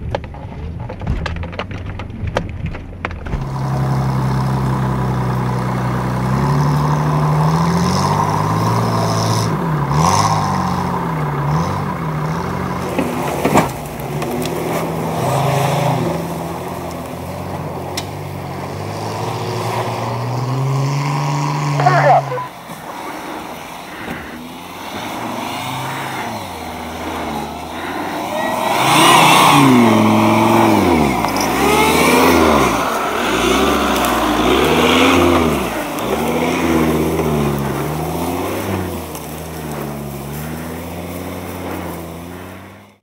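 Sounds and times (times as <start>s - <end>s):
engine revving under load: 3.2s - 43.0s.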